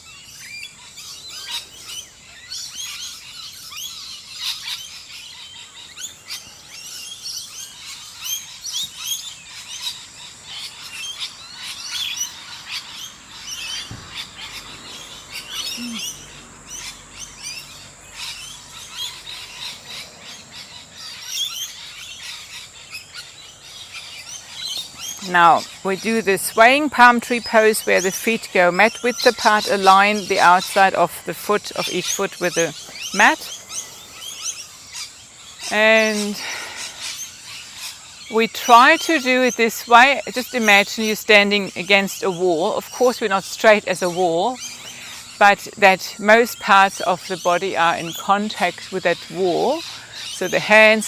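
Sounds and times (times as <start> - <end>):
birds chirping and singing: 0.0 - 51.0.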